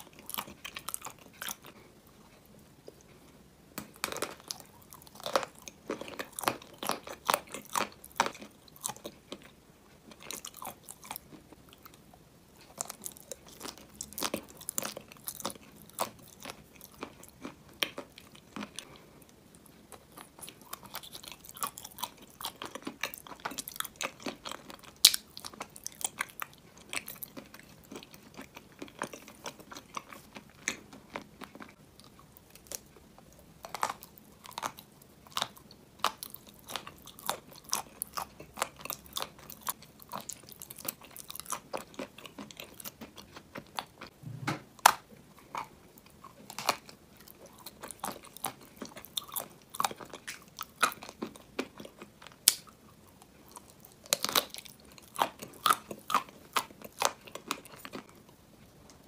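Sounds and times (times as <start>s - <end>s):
crunchy biting and chewing: 0.0s - 3.1s, 3.8s - 12.0s, 12.6s - 59.0s.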